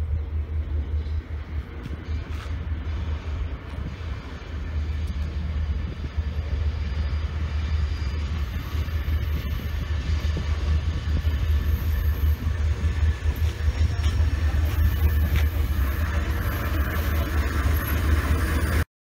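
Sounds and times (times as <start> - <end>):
diesel locomotive engine rumble: 0.0 - 18.9.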